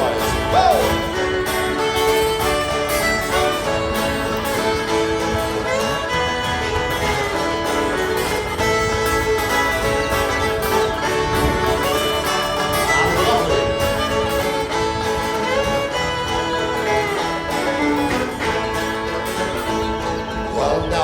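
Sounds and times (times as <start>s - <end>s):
folk band playing: 0.0s - 21.0s.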